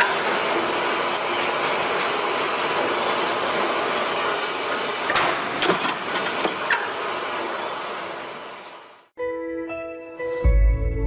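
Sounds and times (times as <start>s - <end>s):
spring coiling machine running: 0.0s - 9.0s.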